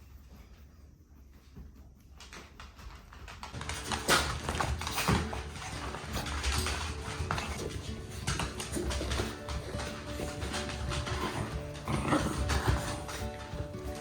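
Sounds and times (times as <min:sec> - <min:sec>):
puppies scrambling and playing: 0:00.2 - 0:14.0.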